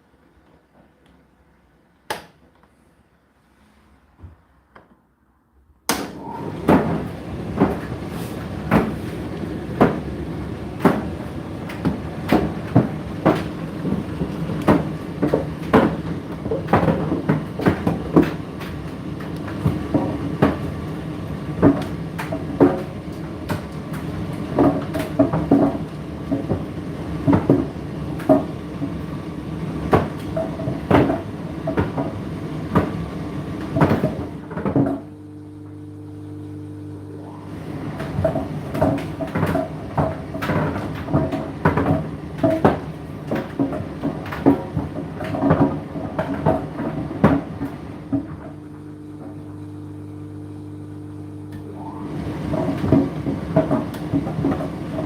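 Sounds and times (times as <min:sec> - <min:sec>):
tumble dryer motor and fan hum: 0:05.9 - 0:55.0.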